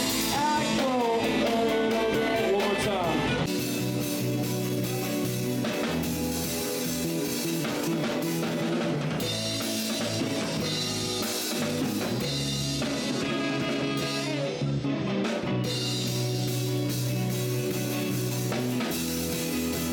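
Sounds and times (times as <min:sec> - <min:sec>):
bass guitar: 0:00.0 - 0:19.9
drum kit: 0:00.0 - 0:19.9
electric guitar: 0:00.0 - 0:19.9.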